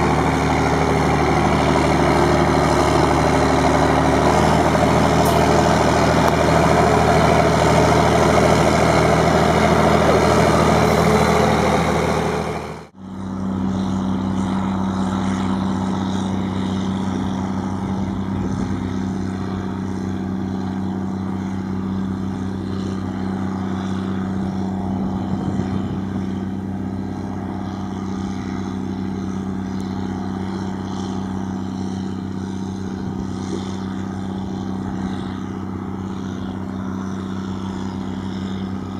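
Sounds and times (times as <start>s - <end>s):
heavy diesel engines running: 0.0s - 38.9s
quieter engine humming: 0.0s - 38.9s.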